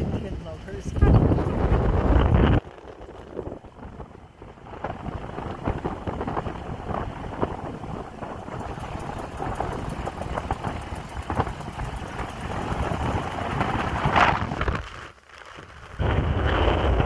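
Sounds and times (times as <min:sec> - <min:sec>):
truck engine and road noise: 0:00.0 - 0:17.0
wind rushing over microphone: 0:00.0 - 0:17.0.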